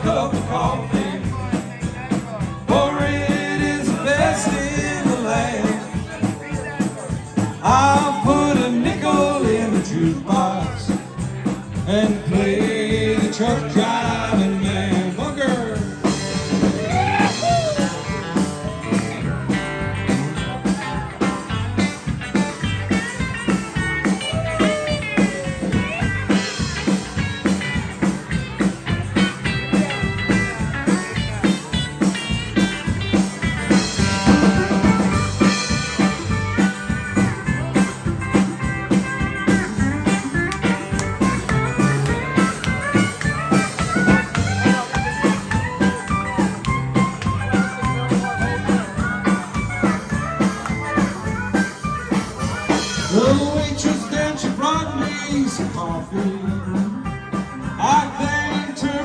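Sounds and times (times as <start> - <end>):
bass guitar: 0.0 - 59.0
drum beat: 0.0 - 59.0
electric lead guitar: 0.0 - 59.0.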